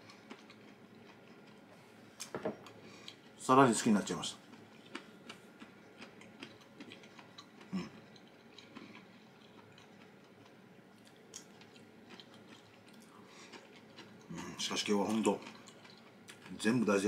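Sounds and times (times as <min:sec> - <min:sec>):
person chewing food: 0:00.0 - 0:03.4, 0:04.4 - 0:16.6.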